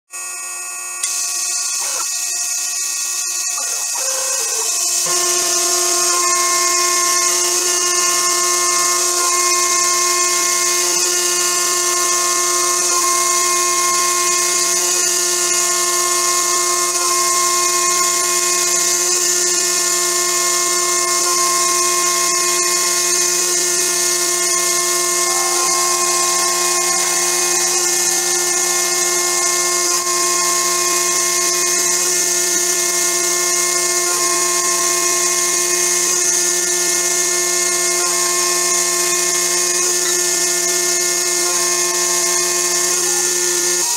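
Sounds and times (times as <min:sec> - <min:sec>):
milling machine spindle whine: 0:00.1 - 0:43.9.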